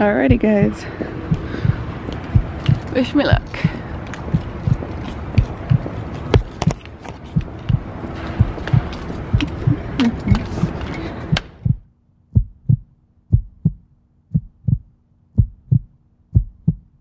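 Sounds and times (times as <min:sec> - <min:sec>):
faint steady hum: 0:00.0 - 0:17.0
heartbeat thumps: 0:00.0 - 0:17.0
outdoor background noise: 0:00.0 - 0:17.0.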